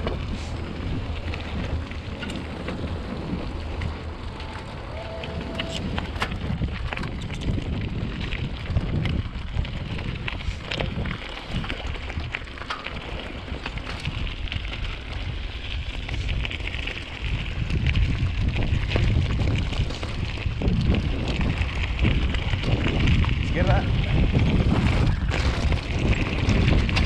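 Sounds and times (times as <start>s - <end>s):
bike clicks and rattles: 0.0s - 27.0s
tyres rolling over dirt: 0.0s - 27.0s
wind buffeting microphone: 0.0s - 27.0s.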